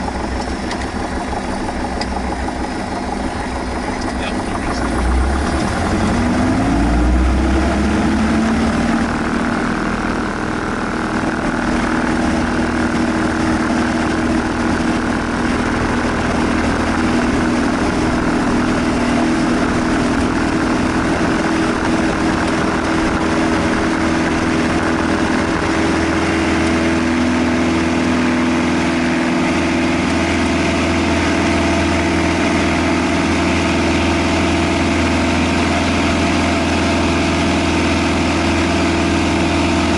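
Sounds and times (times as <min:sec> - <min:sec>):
seaplane engine and propeller: 0:00.0 - 0:39.9.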